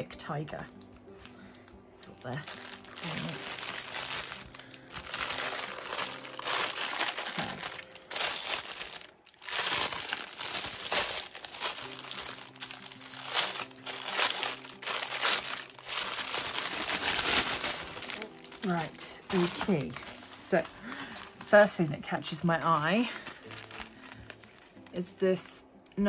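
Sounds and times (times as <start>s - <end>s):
cellophane wrap crinkling: 0.6s - 25.6s.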